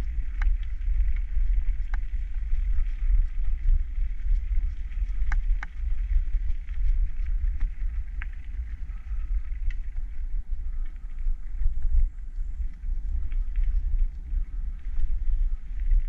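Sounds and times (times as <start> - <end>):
bike clicks and rattles: 0.0 - 16.0
bike rolling on gravel: 0.0 - 16.0
wind rumble on microphone: 0.0 - 16.0.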